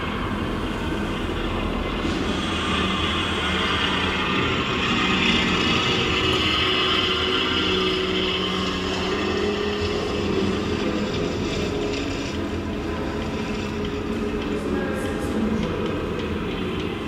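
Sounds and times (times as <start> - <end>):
engine-like drone: 0.0 - 17.0.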